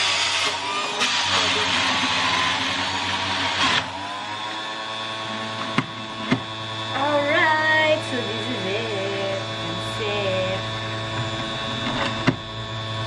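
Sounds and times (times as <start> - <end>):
juicer grinding: 0.0 - 13.0
juicer motor humming: 0.0 - 13.0.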